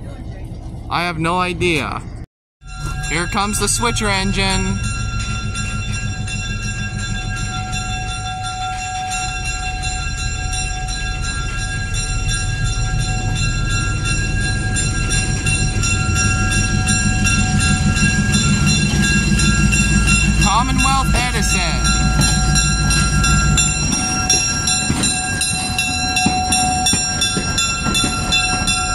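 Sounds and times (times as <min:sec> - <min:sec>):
locomotive rumble: 0:00.0 - 0:28.9
locomotive bell ringing: 0:02.6 - 0:28.9.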